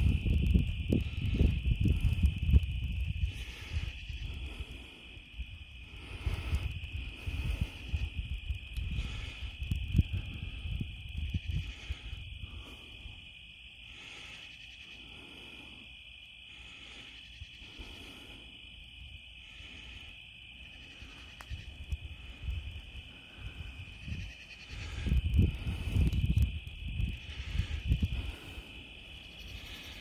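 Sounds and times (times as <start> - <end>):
night insects chirring: 0.0 - 30.0.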